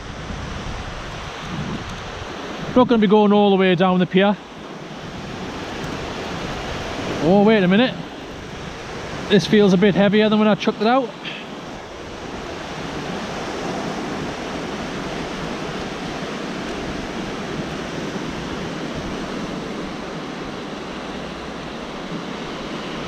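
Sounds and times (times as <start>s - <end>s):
wind on microphone: 0.0s - 4.0s, 4.6s - 10.0s, 11.2s - 23.0s
sea surf washing onto beach: 0.0s - 23.0s.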